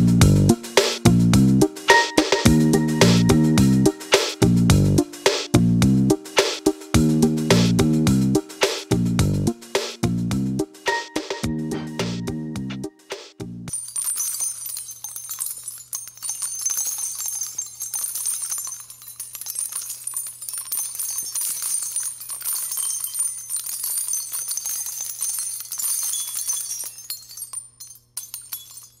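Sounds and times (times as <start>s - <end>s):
music with jingling bells: 0.0s - 29.0s.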